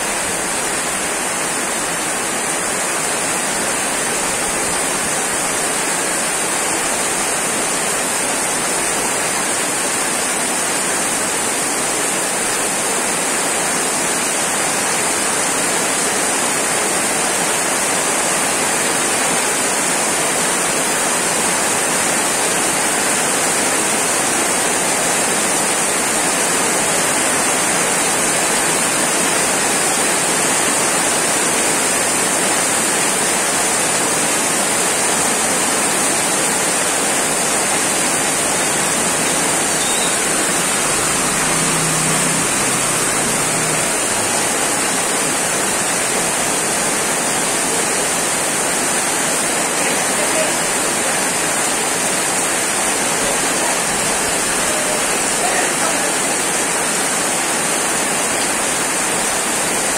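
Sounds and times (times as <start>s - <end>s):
heavy rain on paved street: 0.0s - 59.9s.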